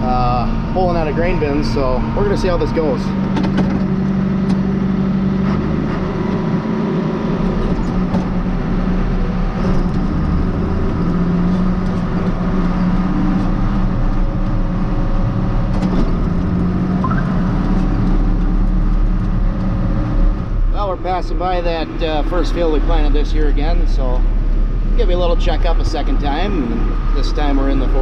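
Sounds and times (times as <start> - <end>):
road noise: 0.0 - 28.0
tractor diesel engine running: 0.0 - 28.0.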